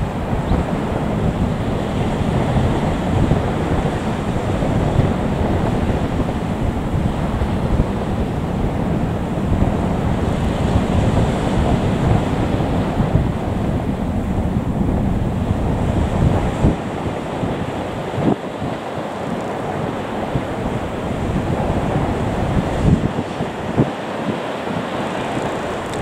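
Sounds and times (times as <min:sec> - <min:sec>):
wind buffeting the microphone: 0:00.0 - 0:26.0.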